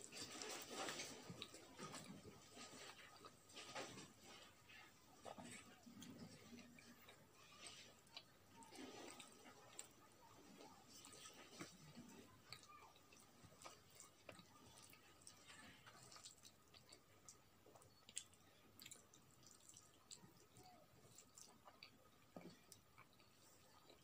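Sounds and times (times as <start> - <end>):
person chewing with mouth clicks: 0.0 - 24.0.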